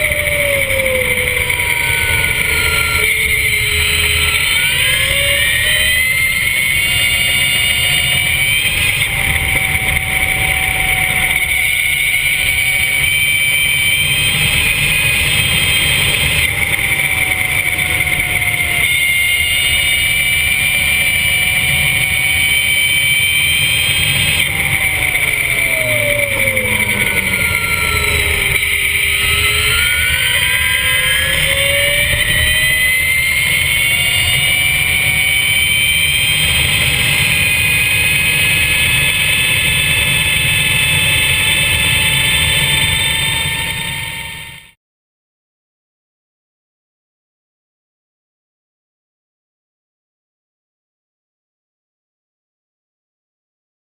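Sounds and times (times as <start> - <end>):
low rush: 0.0 - 44.5
electric motorbike whining: 0.0 - 44.8.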